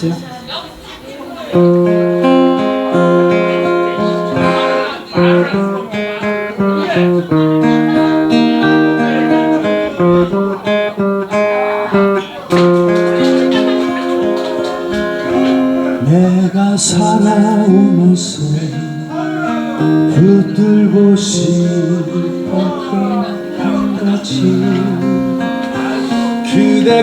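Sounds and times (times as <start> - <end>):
acoustic guitar chords: 1.2 - 27.0.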